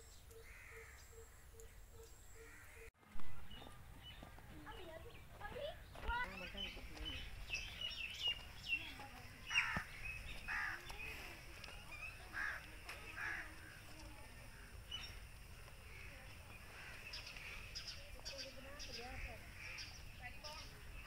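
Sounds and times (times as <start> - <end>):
bird chirps: 0.0 - 21.0.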